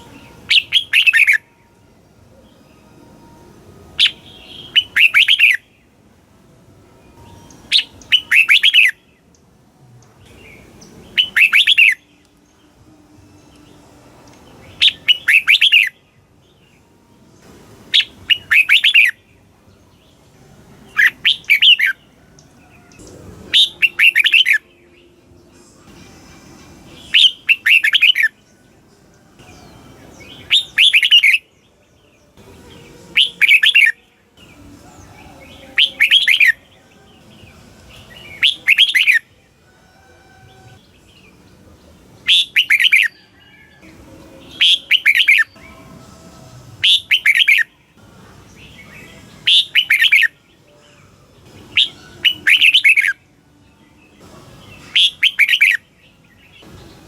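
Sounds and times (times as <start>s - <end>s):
bird warbling song: 0.0s - 1.6s, 4.0s - 6.0s, 7.1s - 9.4s, 10.1s - 12.8s, 13.4s - 16.8s, 17.9s - 20.2s, 20.8s - 25.3s, 26.9s - 39.4s, 40.4s - 46.1s, 46.8s - 57.0s.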